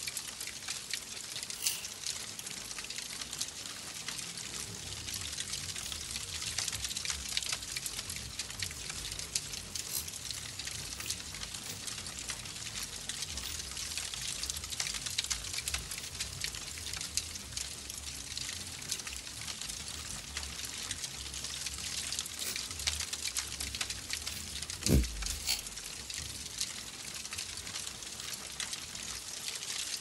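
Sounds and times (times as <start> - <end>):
small crackles: 0.0 - 30.0.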